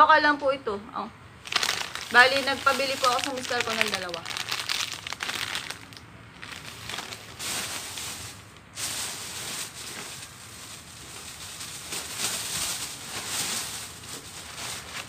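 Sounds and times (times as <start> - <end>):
plastic bags rustling: 1.4 - 15.0.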